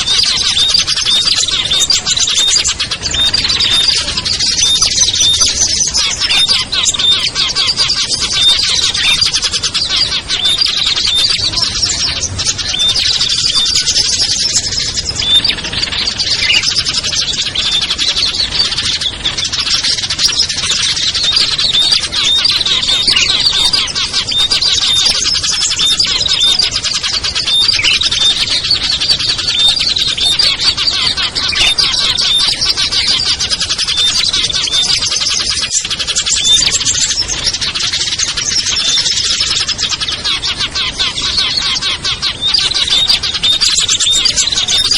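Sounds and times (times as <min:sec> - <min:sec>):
songbirds chirping and twittering: 0:00.0 - 0:44.9.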